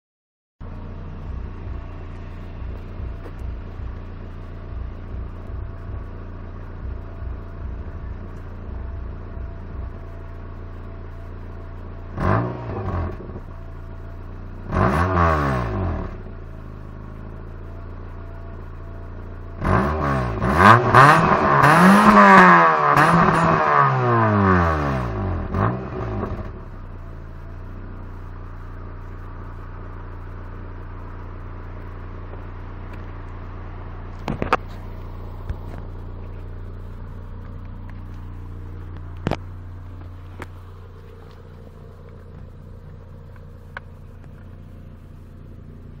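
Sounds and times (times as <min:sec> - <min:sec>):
car engine idling and revving: 0:00.6 - 0:46.0.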